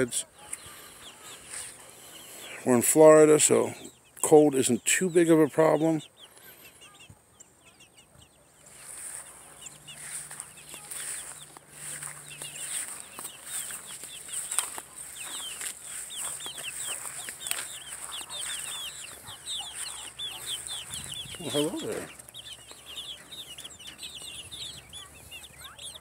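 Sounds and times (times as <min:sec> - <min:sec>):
chicks cheeping: 0:00.0 - 0:26.0.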